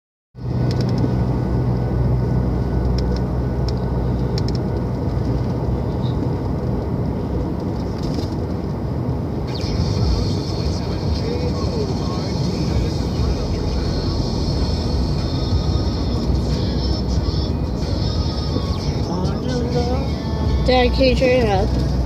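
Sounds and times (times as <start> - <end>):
car engine drone: 0.4 - 22.0
road noise inside a car: 0.4 - 22.0.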